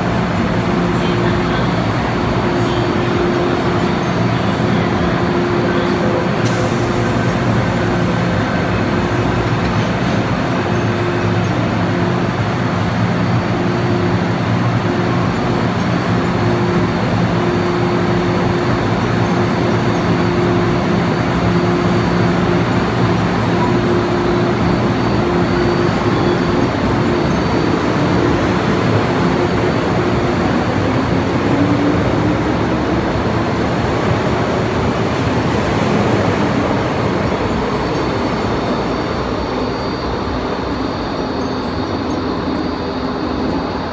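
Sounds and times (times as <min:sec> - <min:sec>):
train equipment hum: 0:00.0 - 0:43.9
train motor whine: 0:00.0 - 0:43.9.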